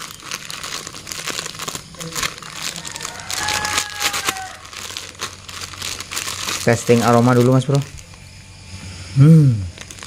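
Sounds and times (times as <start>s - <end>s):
plastic bag crinkling: 0.0s - 8.2s, 9.7s - 10.0s.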